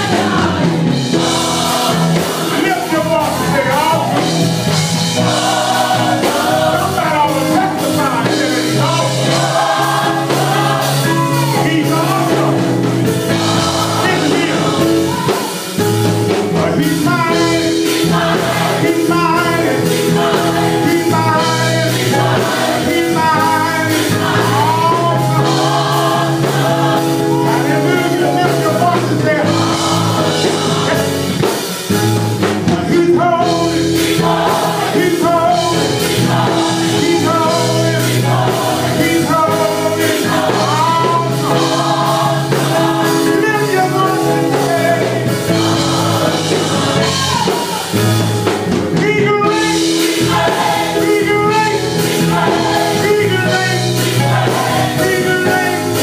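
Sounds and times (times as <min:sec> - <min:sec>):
gospel choir singing: 0:00.0 - 0:56.0
male lead vocalist singing: 0:00.0 - 0:56.0.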